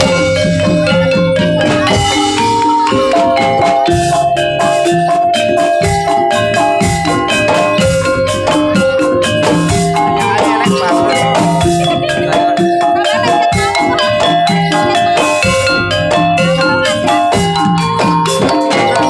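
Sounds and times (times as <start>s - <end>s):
drum strokes: 0.0s - 19.0s
metallophone notes: 0.0s - 19.0s.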